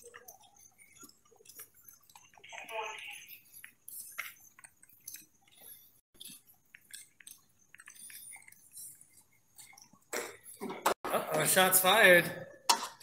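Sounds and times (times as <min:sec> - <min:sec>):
gear clicking and clinking: 0:00.0 - 0:11.0.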